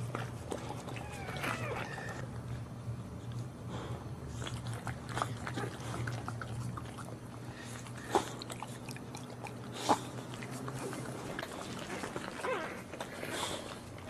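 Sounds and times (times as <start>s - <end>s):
dog licking puppies: 0.0s - 2.4s, 4.3s - 14.0s.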